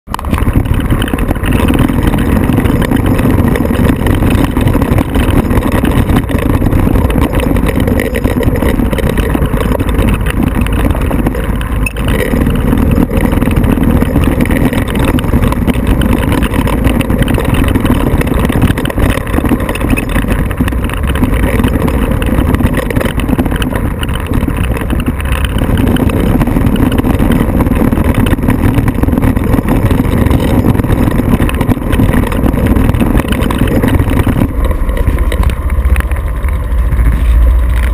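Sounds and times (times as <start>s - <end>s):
vehicle engine rumbling: 0.0s - 37.9s.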